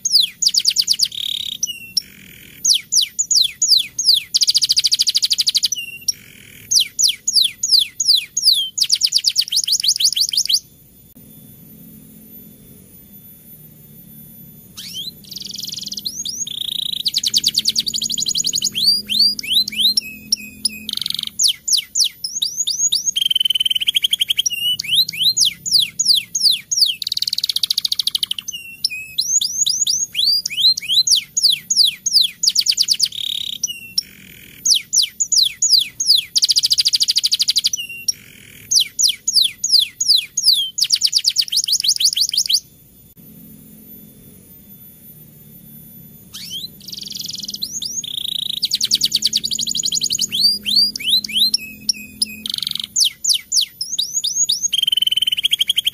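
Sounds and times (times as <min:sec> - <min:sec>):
canary singing in trills: 0:00.0 - 0:55.9.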